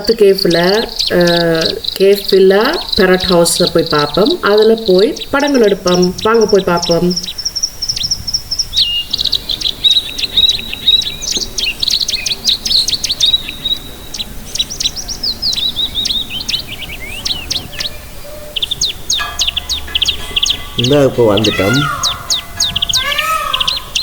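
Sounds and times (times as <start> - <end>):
caged birds chirping: 0.0 - 24.0.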